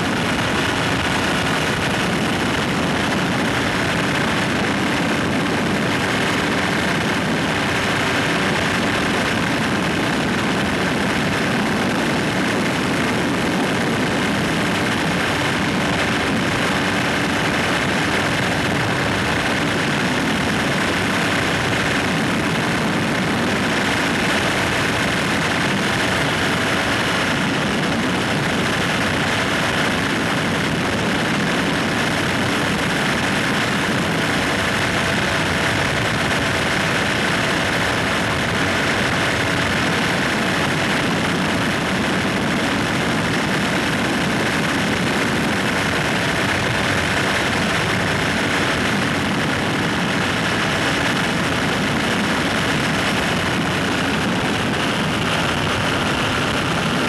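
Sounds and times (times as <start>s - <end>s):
microlight engine and propeller: 0.0s - 57.0s
wind rushing over microphone: 0.0s - 57.0s.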